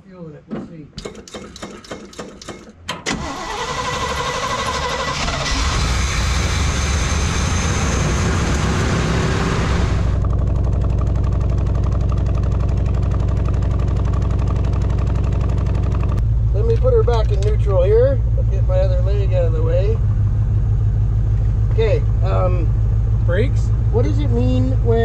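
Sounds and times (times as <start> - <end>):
truck engine starting and idling: 1.0 - 25.0.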